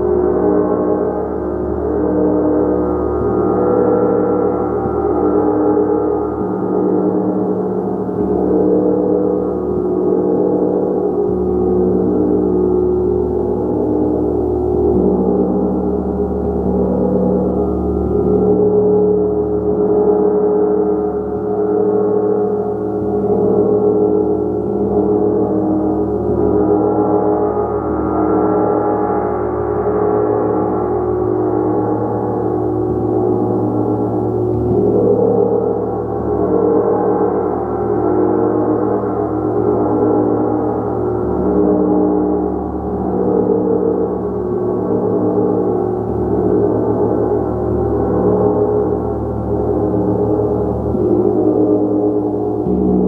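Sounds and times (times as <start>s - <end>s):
gong played with mallets: 0.0s - 53.0s.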